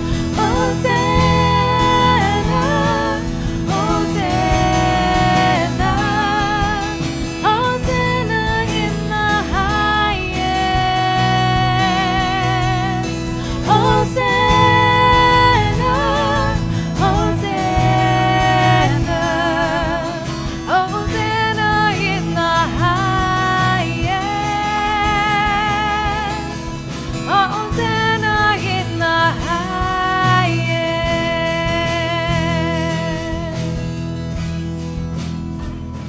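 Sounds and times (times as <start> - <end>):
guitar: 0.0 - 36.0
low accompaniment: 0.0 - 36.0.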